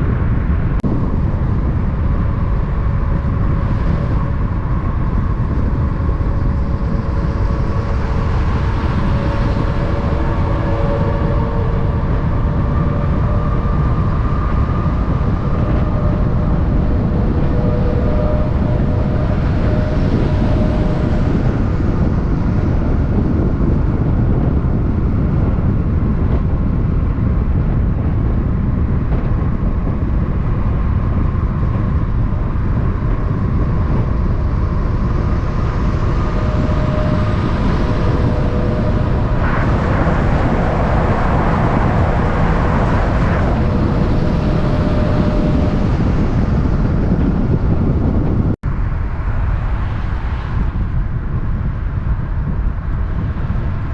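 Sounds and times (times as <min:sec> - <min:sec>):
road noise: 0:00.0 - 0:53.9
vehicle rumble: 0:00.0 - 0:53.9
rush of sound: 0:00.8 - 0:23.9, 0:28.6 - 0:53.9.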